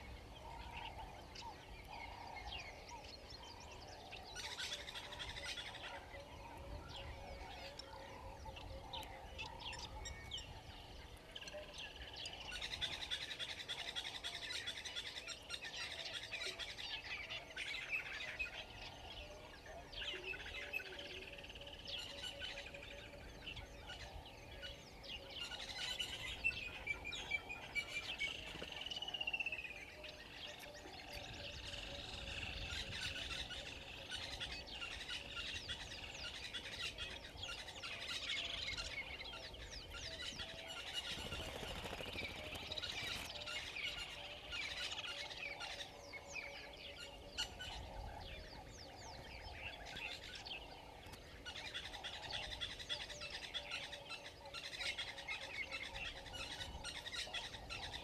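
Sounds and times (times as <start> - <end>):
chorus of wild birds calling: 0.0 - 58.0.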